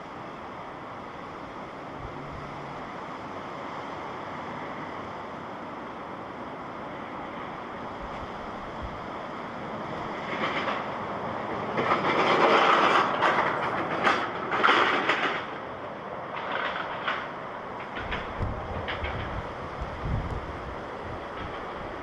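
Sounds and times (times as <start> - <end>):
airliner jet noise landing: 0.0 - 22.0.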